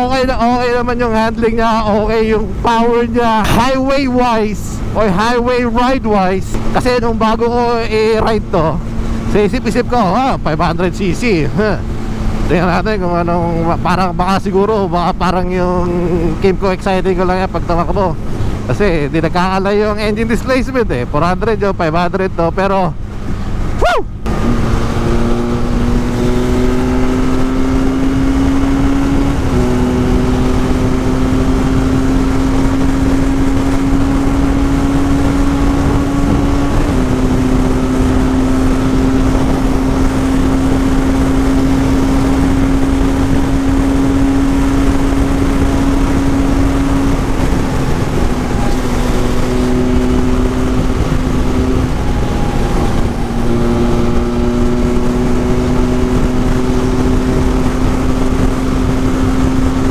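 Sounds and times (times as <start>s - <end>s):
wind rush on microphone: 0.0s - 21.9s, 22.7s - 59.9s
motorcycle engine cruising: 0.0s - 59.9s.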